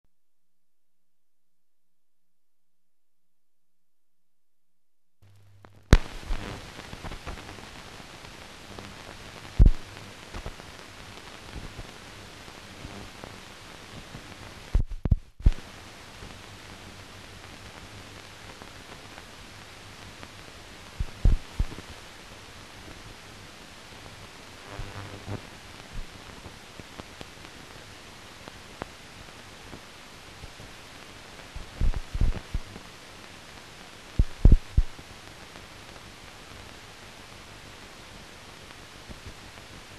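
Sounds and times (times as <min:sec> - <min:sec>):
film soundtrack hiss: 0:05.2 - 0:39.9.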